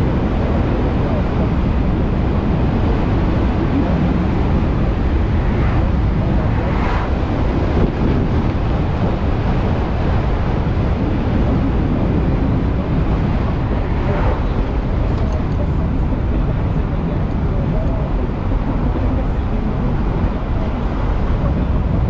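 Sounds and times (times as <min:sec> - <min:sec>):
tyre and road noise: 0:00.0 - 0:22.0
wind rush over microphone: 0:00.0 - 0:22.0.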